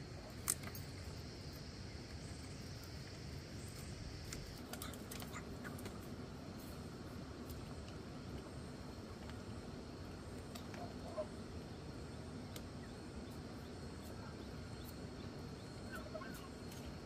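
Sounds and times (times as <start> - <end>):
high-pitched insect hum: 0.0 - 17.0.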